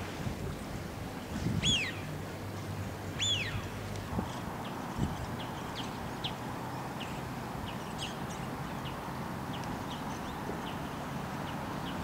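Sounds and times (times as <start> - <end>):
steady background hiss: 0.0 - 12.0
birds ticking and chirping: 1.6 - 12.0.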